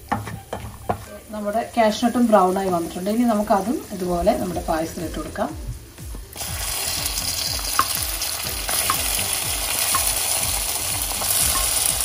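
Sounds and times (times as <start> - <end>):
nuts sizzling in a pan: 0.0 - 12.0.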